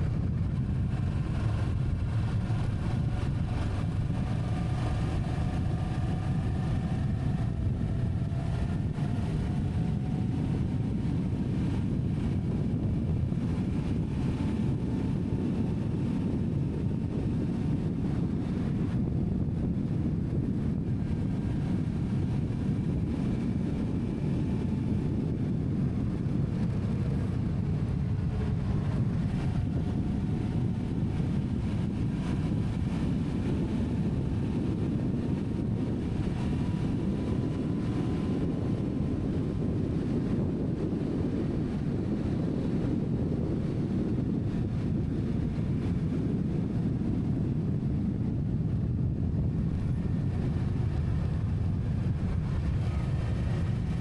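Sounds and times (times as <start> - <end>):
vehicle rumble in motion: 0.0 - 54.0
wind noise on microphone: 0.0 - 54.0.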